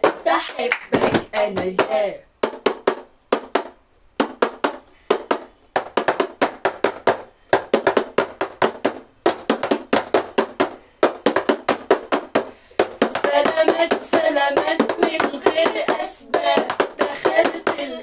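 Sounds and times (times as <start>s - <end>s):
plastic cups tapped on table: 0.0s - 17.8s
hand claps: 0.0s - 18.0s.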